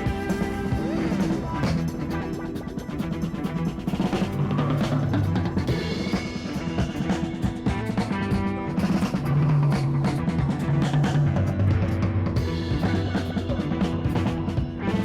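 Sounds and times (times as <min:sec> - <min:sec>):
upbeat music with drums and bass: 0:00.0 - 0:15.0.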